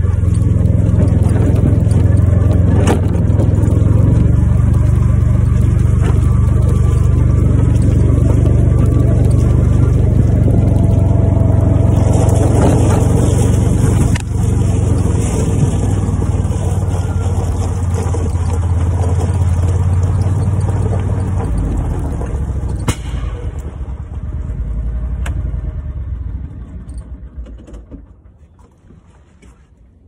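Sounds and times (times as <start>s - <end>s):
tires on gravel: 0.0s - 30.0s
utility vehicle engine running: 0.0s - 30.0s.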